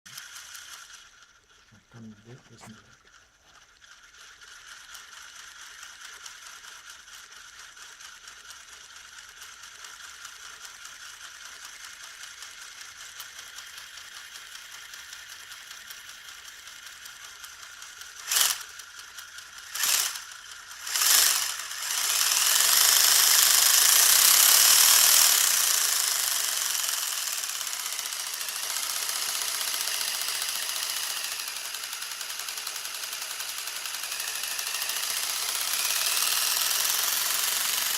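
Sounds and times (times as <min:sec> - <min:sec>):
toy motor and gears rattling: 0:00.1 - 0:37.9.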